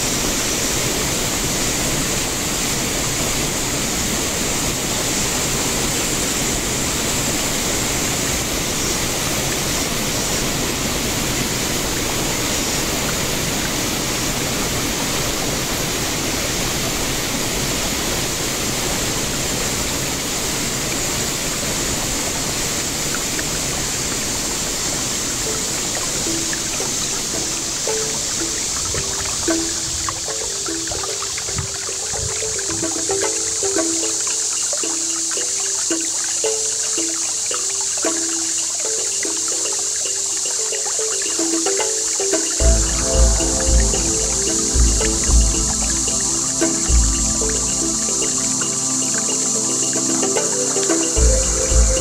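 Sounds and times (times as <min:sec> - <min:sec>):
shallow river water flowing: 0:00.0 - 0:52.0.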